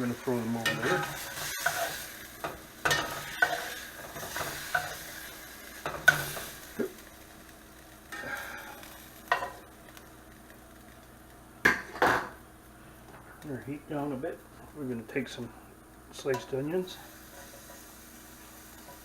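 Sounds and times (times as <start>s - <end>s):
fat sizzling in a fryer: 0.0s - 19.0s.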